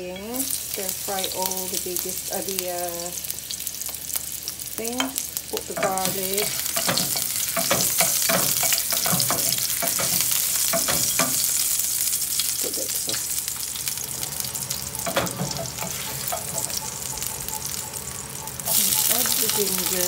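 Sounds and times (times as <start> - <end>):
garlic sizzling in hot oil: 0.0 - 20.0.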